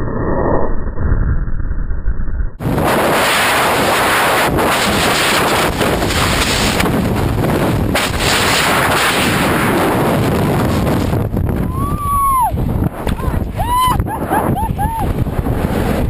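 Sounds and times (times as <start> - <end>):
wind buffeting microphone: 2.6 - 16.0.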